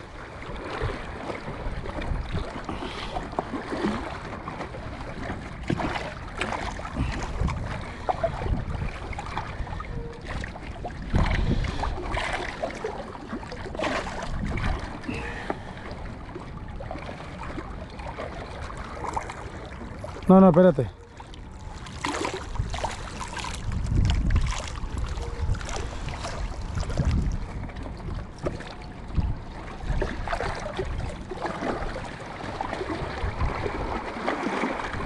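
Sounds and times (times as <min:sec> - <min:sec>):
lake water lapping: 0:00.0 - 0:35.0
wind buffeting microphone: 0:00.0 - 0:35.0.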